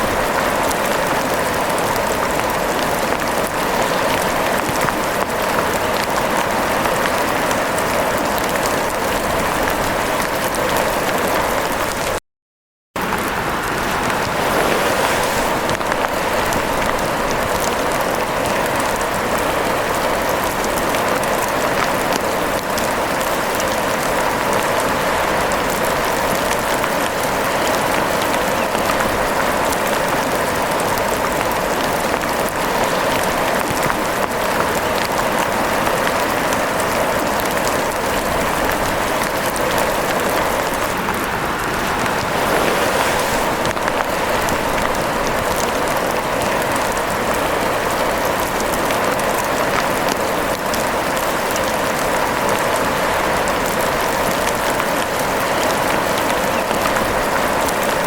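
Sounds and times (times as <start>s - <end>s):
steady rain falling: 0.0s - 12.2s, 13.0s - 58.0s.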